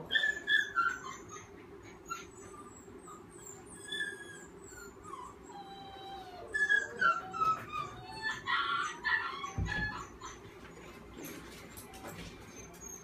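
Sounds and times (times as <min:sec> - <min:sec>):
puppy whimpering and whining: 0:00.0 - 0:11.2, 0:12.2 - 0:13.0.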